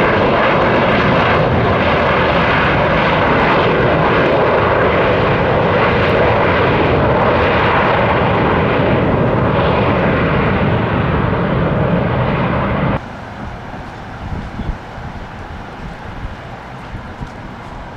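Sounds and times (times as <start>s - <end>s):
aircraft engines running: 0.0s - 17.9s.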